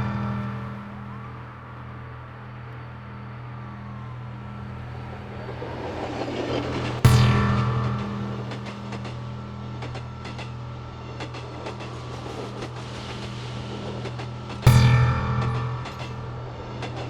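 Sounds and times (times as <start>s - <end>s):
train clicks: 0.0s - 17.0s
train passing with low drone: 0.0s - 17.0s.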